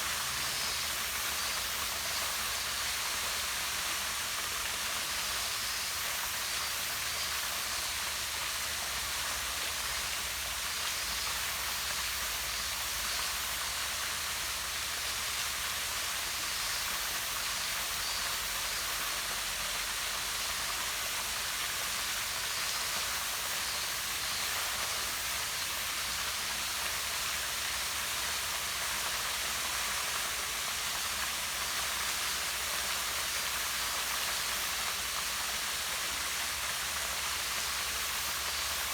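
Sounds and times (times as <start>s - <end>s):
waterfall splashing into pond: 0.0s - 38.9s.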